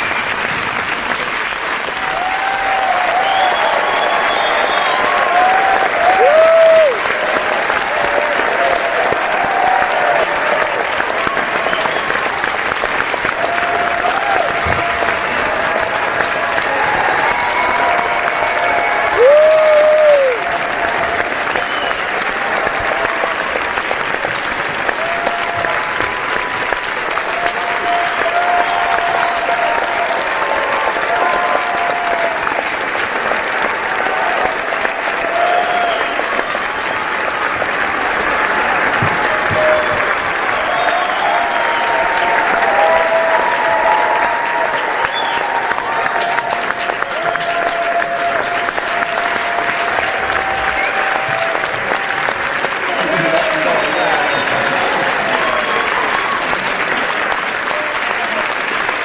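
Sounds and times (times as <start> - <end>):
audience applauding: 0.0 - 59.0
crowd clapping: 0.0 - 59.0.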